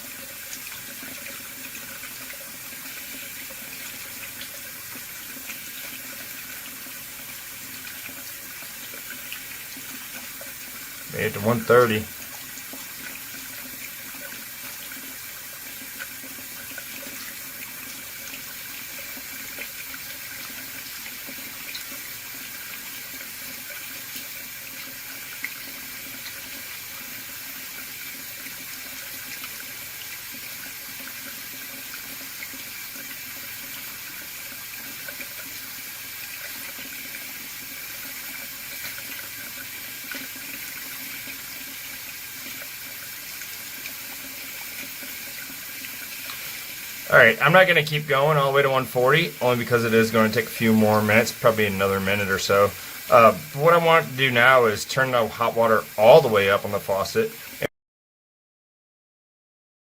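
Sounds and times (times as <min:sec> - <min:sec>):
water running from faucet: 0:00.0 - 0:57.7.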